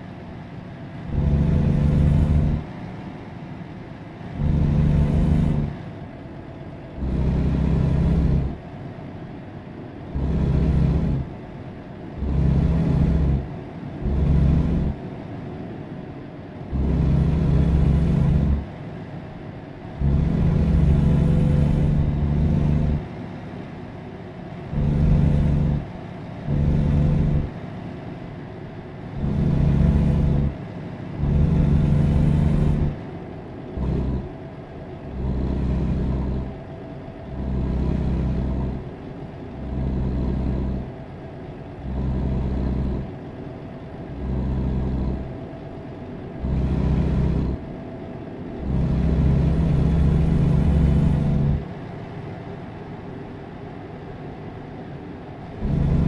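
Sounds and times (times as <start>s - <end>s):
low machine hum bursts: 0.0s - 56.0s.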